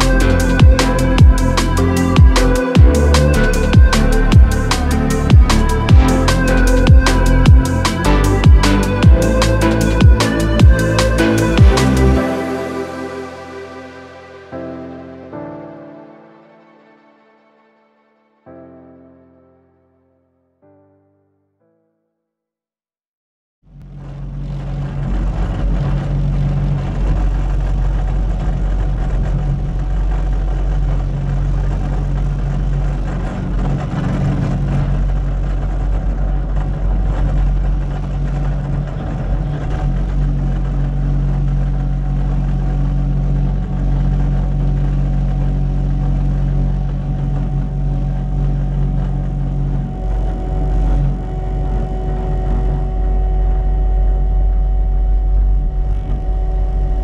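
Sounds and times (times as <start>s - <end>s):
diesel engine running: 0.0s - 15.3s, 23.7s - 57.0s.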